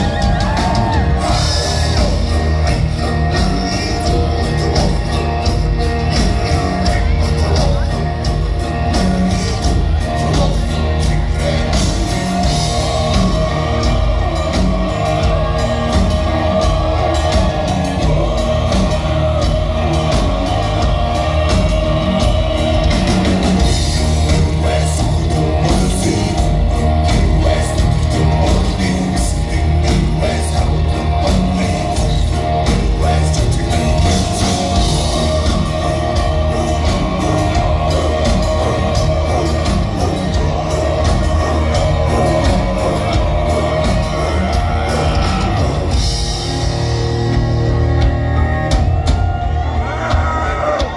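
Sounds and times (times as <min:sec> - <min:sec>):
drums: 0:00.0 - 0:50.9.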